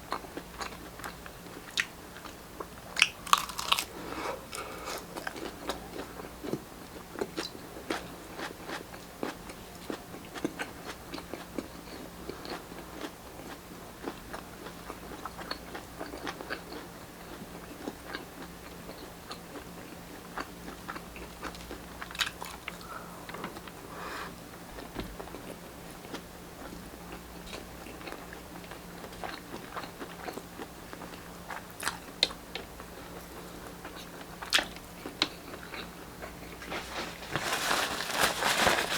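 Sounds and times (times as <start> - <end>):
chewing and biting food: 0.1 - 23.8, 24.8 - 32.7, 33.6 - 38.9.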